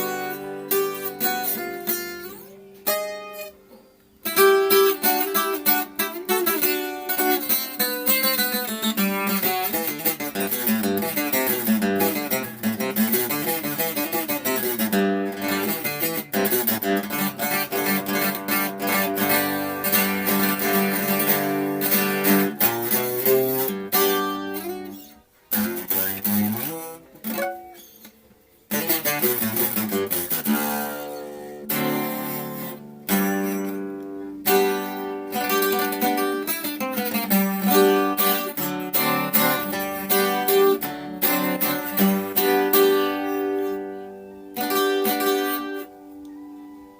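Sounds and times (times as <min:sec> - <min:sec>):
acoustic guitar playing: 0:00.0 - 0:46.9.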